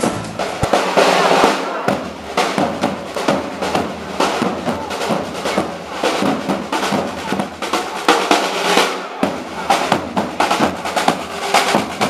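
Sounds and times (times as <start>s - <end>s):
parade drums playing: 0.0s - 12.0s.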